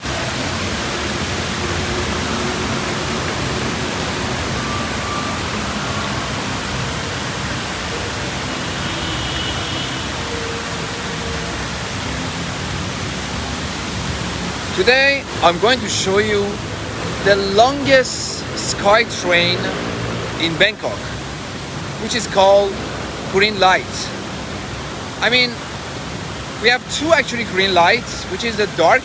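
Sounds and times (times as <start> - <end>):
steady rushing noise: 0.0 - 29.0.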